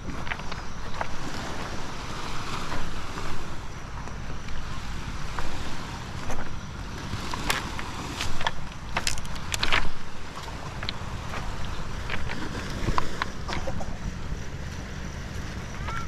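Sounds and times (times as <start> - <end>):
steady wash of noise: 0.0 - 16.0
wind buffeting microphone: 0.0 - 16.0.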